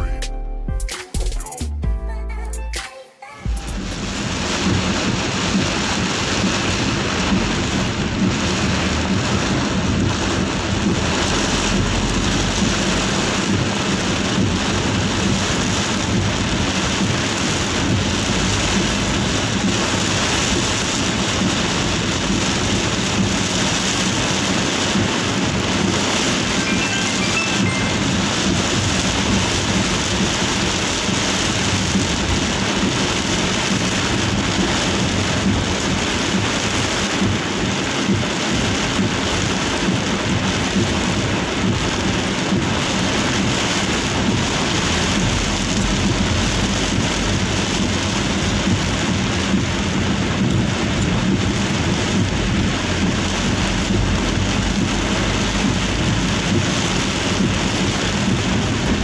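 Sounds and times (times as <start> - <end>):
deep rumble: 3.5 - 26.8, 27.6 - 59.0
heavy rain on van roof: 3.5 - 59.0.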